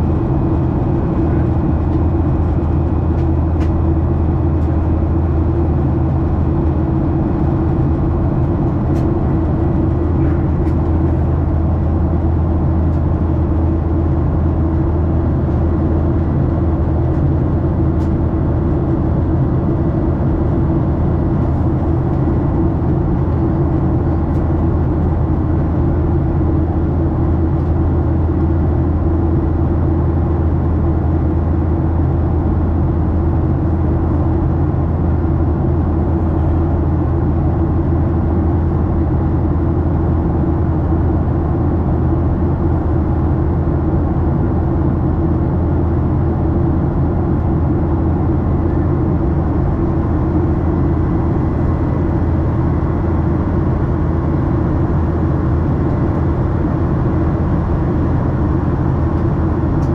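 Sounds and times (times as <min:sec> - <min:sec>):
airplane engine drone and rushing air: 0:00.0 - 0:59.9.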